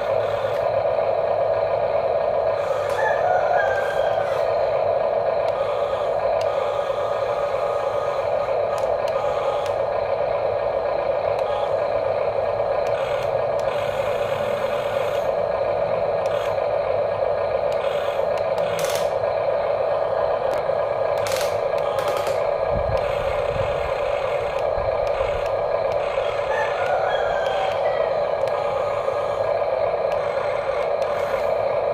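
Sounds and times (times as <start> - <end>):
small electric motors whining: 0.0 - 31.9.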